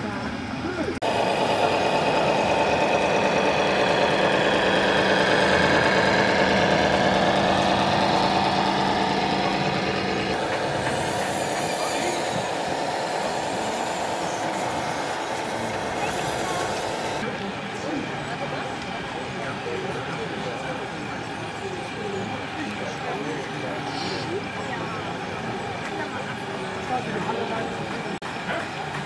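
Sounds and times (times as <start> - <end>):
diesel truck engine sound: 0.0 - 29.0.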